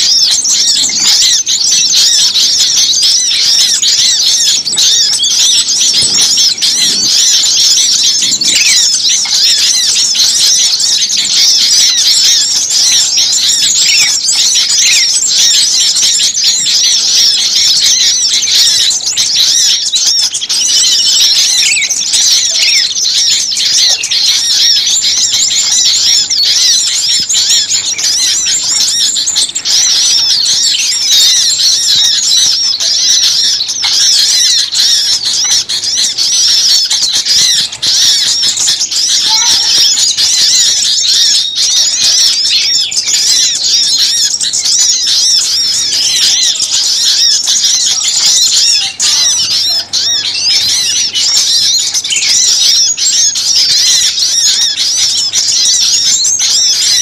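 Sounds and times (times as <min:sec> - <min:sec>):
small songbirds chirping and chattering: 0:00.0 - 0:57.0.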